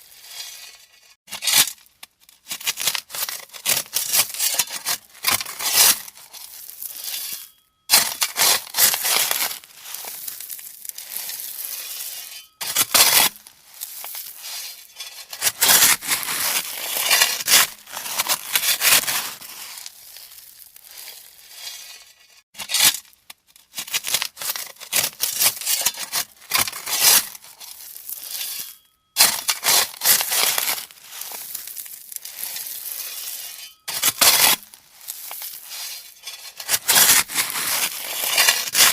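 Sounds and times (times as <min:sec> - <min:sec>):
shovel scooping gravel: 0:00.0 - 0:01.8, 0:02.5 - 0:23.1, 0:23.7 - 0:38.9.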